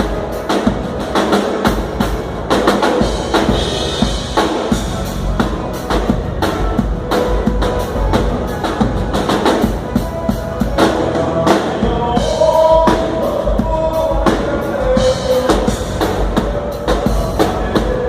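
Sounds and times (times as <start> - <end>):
drum kit beat: 0.0 - 18.0
live dance-band music: 0.0 - 18.0.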